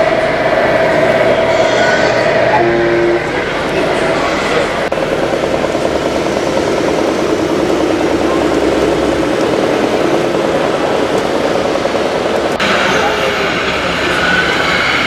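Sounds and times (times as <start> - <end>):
truck engine sound: 0.0 - 15.0.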